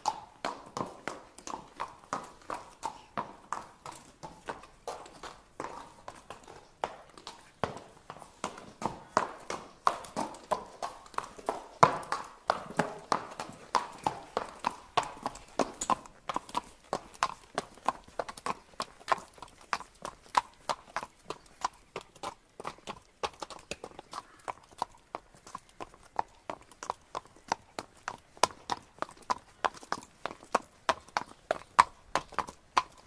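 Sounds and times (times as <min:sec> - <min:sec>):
horse hooves trotting: 0:00.0 - 0:33.0.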